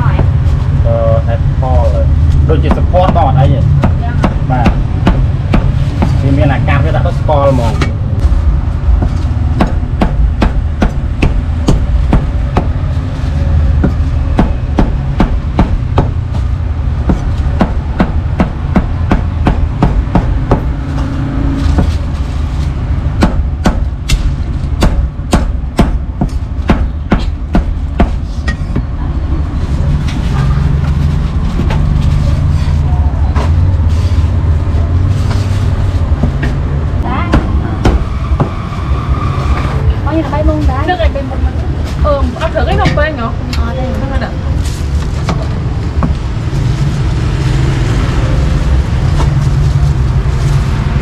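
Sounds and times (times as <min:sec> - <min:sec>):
steady low rumble: 0:00.0 - 0:51.0.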